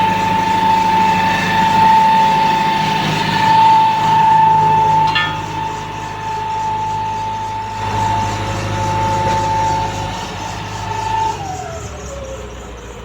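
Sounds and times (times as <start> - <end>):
diesel engine running: 0.0 - 13.0
high steady whine: 0.2 - 11.1.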